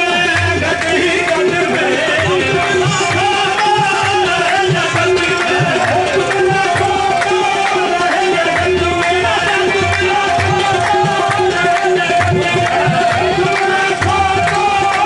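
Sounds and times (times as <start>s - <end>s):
tabla strokes: 0.0s - 15.0s.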